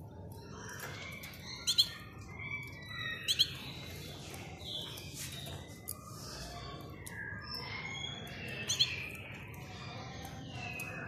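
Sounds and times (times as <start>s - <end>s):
canaries chirping: 0.0s - 11.0s.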